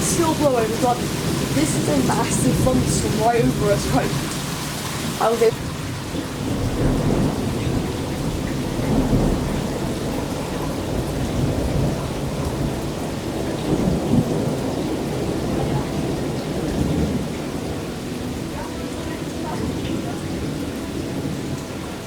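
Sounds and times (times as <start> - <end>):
heavy rain: 0.0 - 22.0
thunder rumbling: 0.0 - 22.0.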